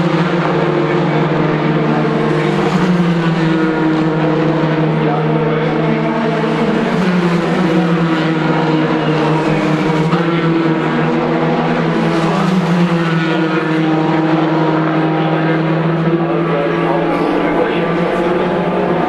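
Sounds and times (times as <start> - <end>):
racing cars engines at high revs: 0.0 - 19.0.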